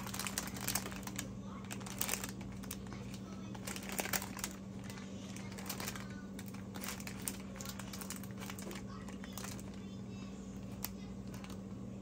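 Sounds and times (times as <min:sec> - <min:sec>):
paper liner crinkling: 0:00.0 - 0:11.8
steady low hum: 0:00.0 - 0:12.0.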